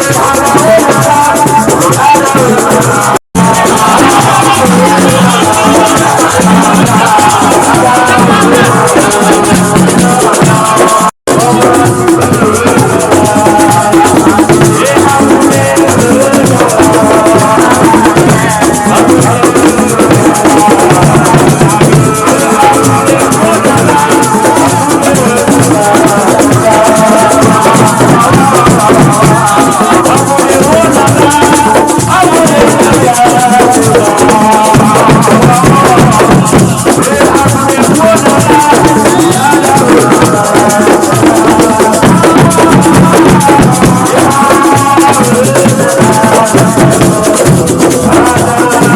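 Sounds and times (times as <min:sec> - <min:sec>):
loud music with drums: 0:00.0 - 0:48.9
rattling shakers: 0:00.0 - 0:48.9.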